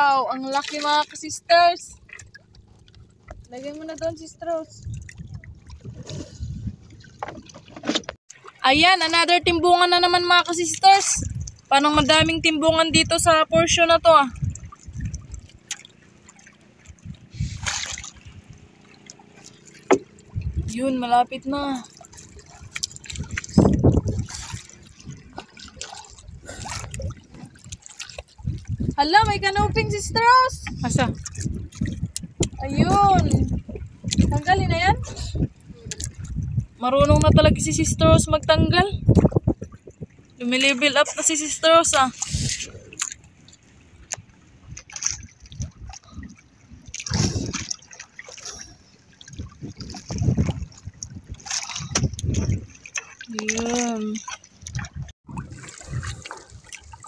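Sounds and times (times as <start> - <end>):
water trickling and sloshing: 0.0 - 57.0.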